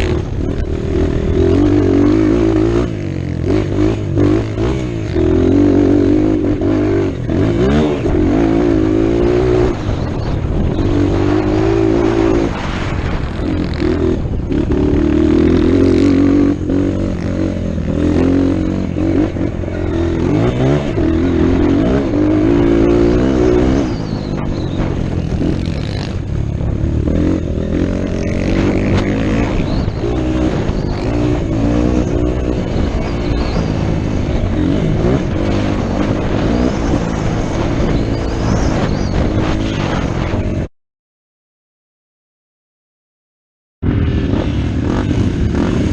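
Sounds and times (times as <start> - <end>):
dirt bike engine racing: 0.0 - 40.7, 43.8 - 45.9.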